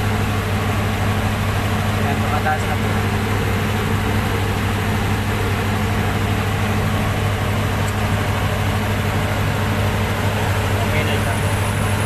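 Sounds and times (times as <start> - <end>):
diesel generator running: 0.0 - 12.0.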